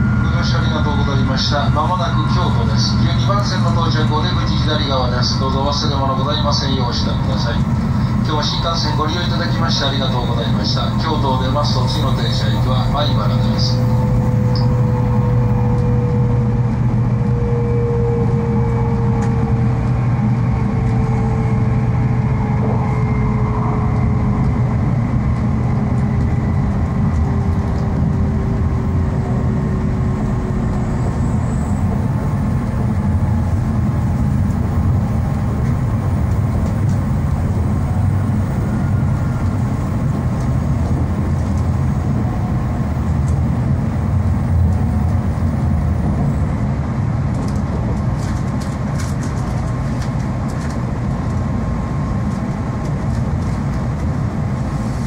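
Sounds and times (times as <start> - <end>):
faint train whine: 0.0 - 55.0
train low rumble: 0.0 - 55.0.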